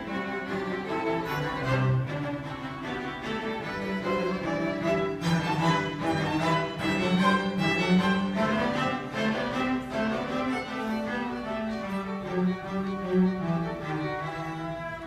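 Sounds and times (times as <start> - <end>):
cello line: 0.0 - 15.0
violins playing: 0.0 - 15.0.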